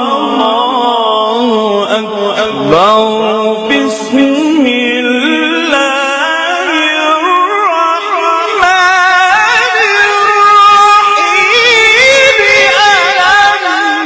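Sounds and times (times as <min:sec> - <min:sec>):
person reciting melismatic chant: 0:00.0 - 0:14.0.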